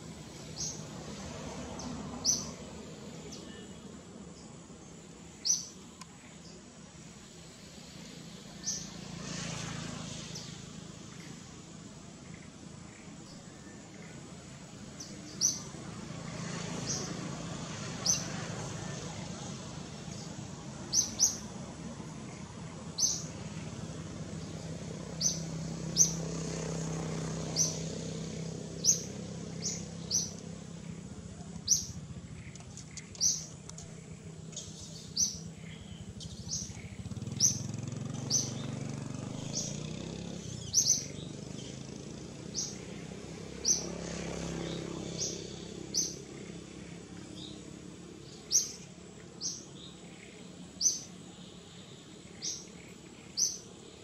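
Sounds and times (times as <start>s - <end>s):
small bird chirping: 0.2s - 3.8s, 5.4s - 6.6s, 8.5s - 11.5s, 12.1s - 17.2s, 17.8s - 54.0s.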